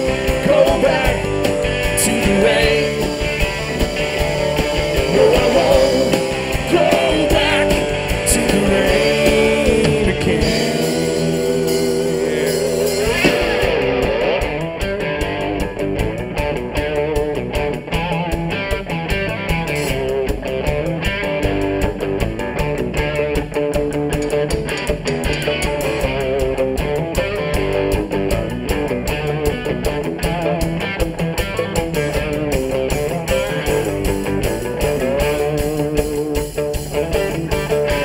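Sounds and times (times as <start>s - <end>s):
bass guitar: 0.0s - 38.0s
electric guitar: 0.0s - 38.0s
steady drum beat: 0.0s - 38.0s.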